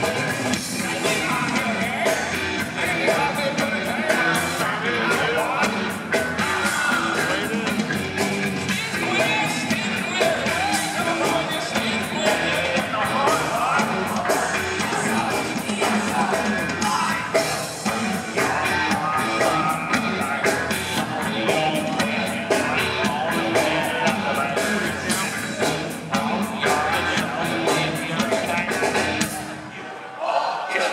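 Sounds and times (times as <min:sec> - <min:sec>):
drum kit beat: 0:00.0 - 0:29.6
electric bass: 0:00.0 - 0:29.6
person singing: 0:00.0 - 0:29.8.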